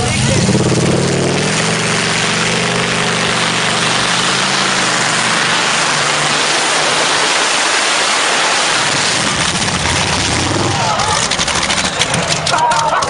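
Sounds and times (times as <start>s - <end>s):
tractor engine roaring: 0.0s - 13.0s.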